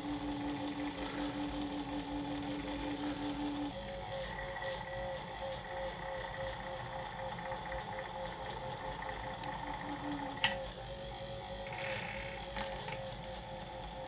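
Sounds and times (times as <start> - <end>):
small lathe pulsing hum: 0.0 - 14.0.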